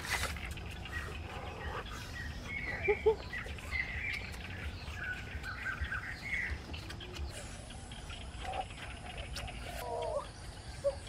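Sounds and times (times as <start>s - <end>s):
low steady outdoor rumble: 0.0s - 11.0s
wild birds chirping: 0.0s - 11.0s.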